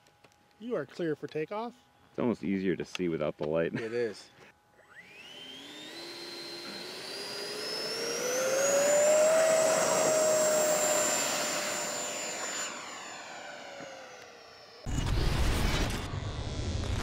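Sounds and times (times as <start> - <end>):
electric ducted fan whine: 0.0 - 14.9.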